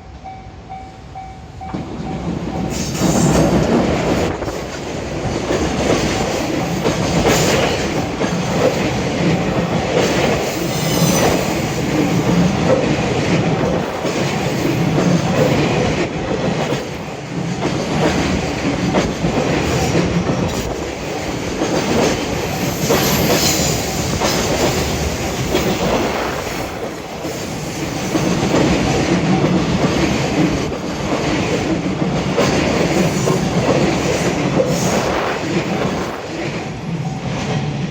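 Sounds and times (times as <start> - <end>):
train wheels clattering over rail joints: 2.7 - 36.6.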